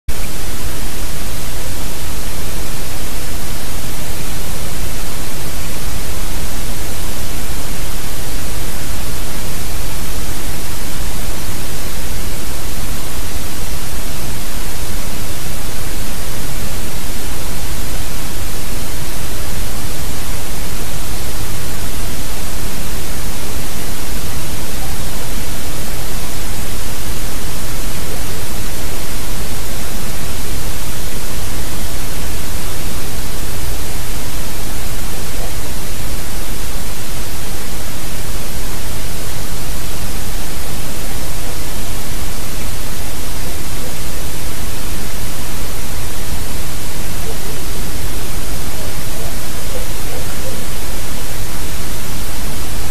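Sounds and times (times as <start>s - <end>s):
microphone static hiss: 0.1s - 52.9s.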